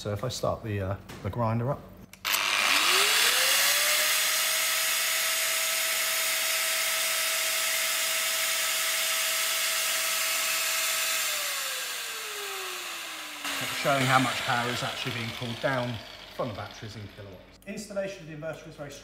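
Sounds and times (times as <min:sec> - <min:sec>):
angle grinder whine: 0:02.2 - 0:17.6.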